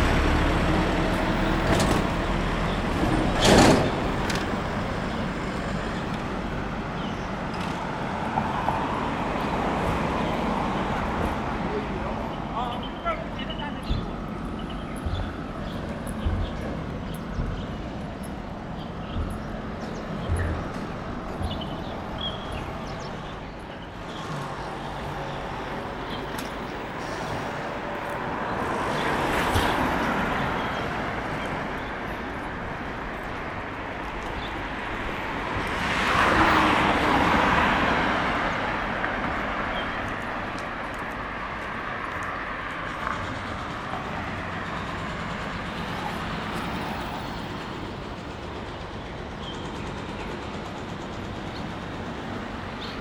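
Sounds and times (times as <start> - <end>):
street traffic noise: 0.0 - 53.0
vehicles passing by: 0.0 - 53.0.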